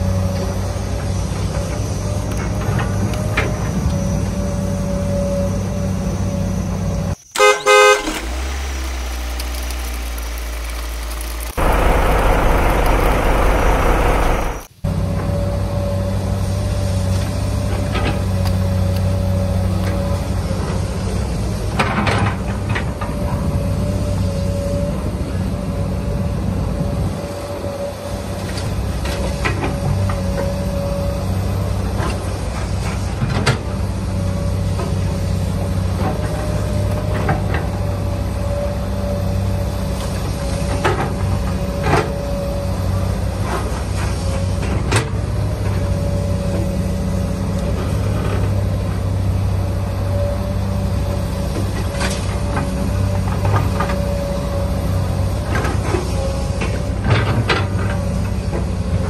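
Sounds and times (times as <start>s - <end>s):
low mechanical drone: 0.0s - 59.0s.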